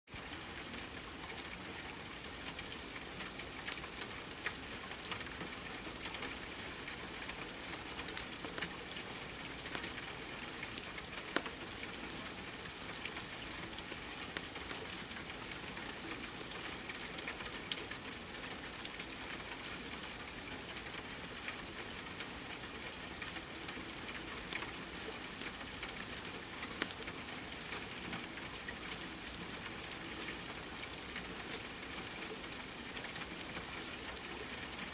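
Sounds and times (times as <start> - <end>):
rain hiss: 0.2 - 34.9.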